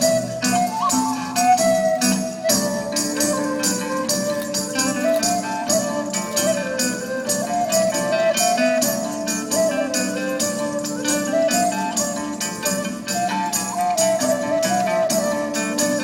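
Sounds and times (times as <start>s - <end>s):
quick percussion strokes: 0.0s - 16.0s
wandering folk melody: 0.0s - 16.0s.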